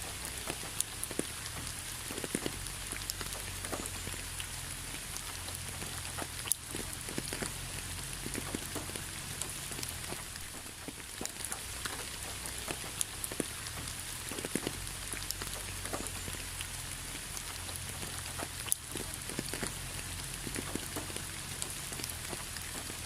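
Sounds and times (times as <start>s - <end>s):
rain falling: 0.0s - 23.0s
drops ticking on a surface: 0.1s - 16.7s, 17.3s - 23.0s.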